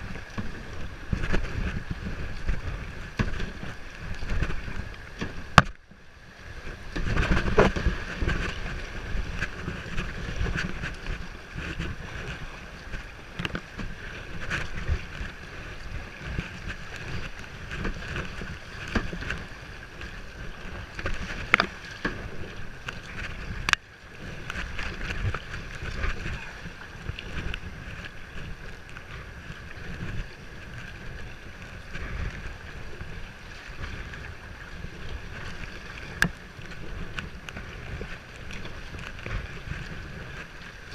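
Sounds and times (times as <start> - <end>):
water splashing around kayak: 0.0 - 40.9
wind rumbling on microphone: 0.0 - 40.9.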